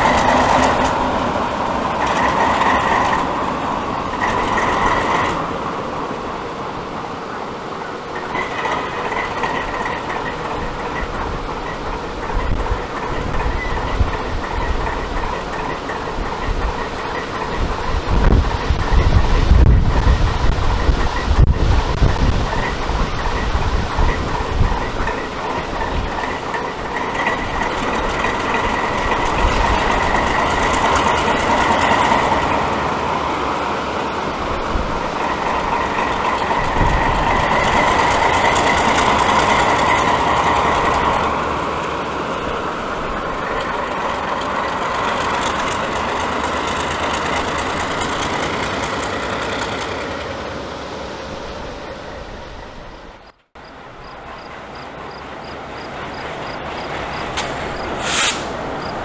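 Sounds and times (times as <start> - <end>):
diesel locomotive engine running: 0.0 - 59.0
wheels clacking over rail joints: 0.0 - 59.0.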